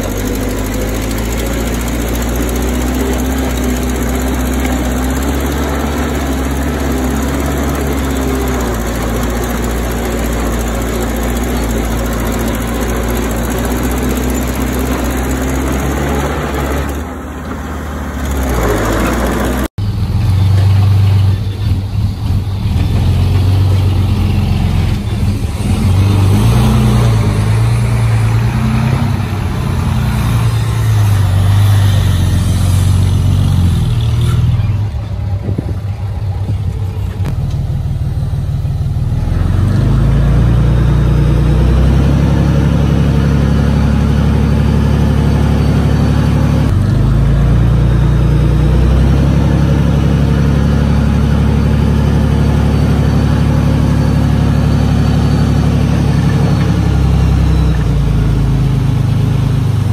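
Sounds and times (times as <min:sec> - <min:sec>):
deep diesel engine under load: 0:00.0 - 0:59.9
heavy diesel machinery engine: 0:00.0 - 0:59.9.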